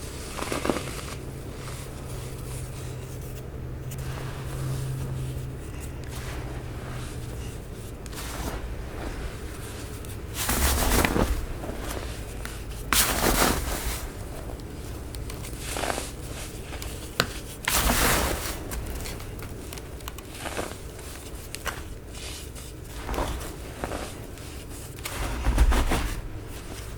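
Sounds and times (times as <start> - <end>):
baking soda crunching: 0.0 - 26.9.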